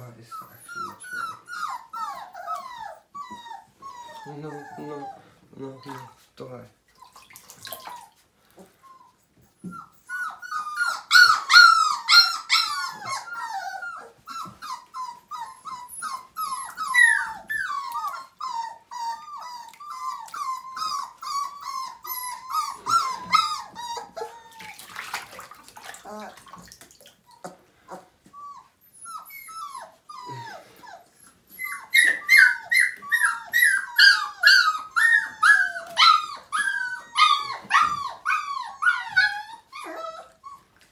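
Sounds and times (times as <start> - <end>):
puppies whining and crying: 0.0 - 40.9.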